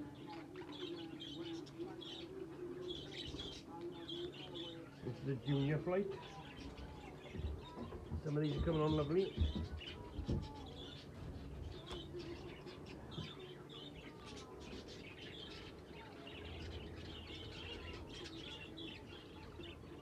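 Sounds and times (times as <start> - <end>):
budgerigars chirping and chattering: 0.0 - 20.0.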